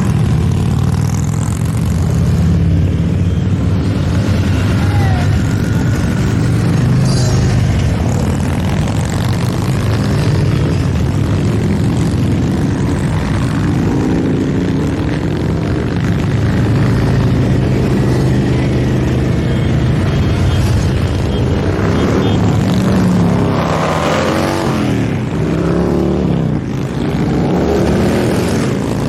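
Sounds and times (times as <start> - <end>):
motorcycles riding past: 0.0 - 29.0.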